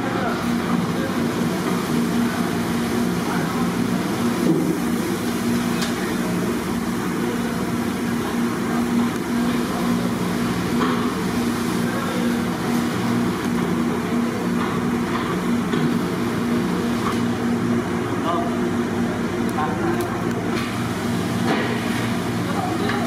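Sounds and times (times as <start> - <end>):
hot oil bubbling and sizzling: 0.0 - 18.1, 20.3 - 23.0
gas burner roaring: 0.0 - 23.0.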